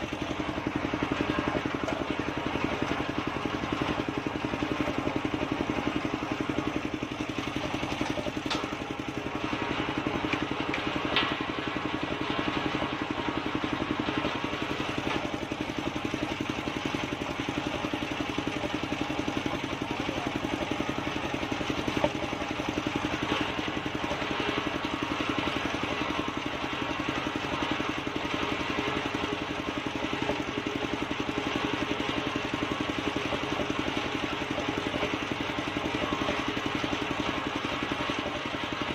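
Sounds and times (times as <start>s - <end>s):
circular saw running: 0.0s - 38.9s.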